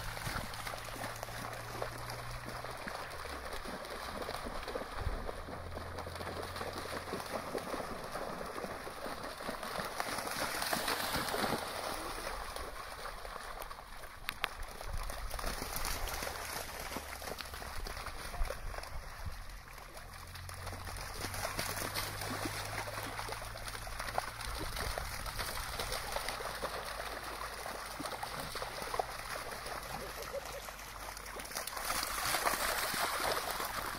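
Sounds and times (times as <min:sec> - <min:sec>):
dogs splashing through water: 0:00.0 - 0:33.9.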